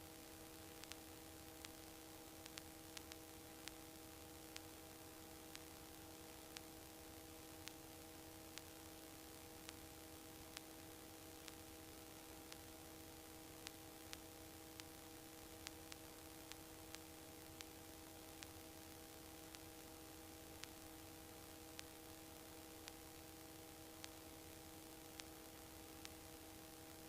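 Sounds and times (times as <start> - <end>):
faint steady hiss: 0.0 - 27.0
low electrical hum: 0.0 - 27.0
faint ticks: 0.3 - 27.0.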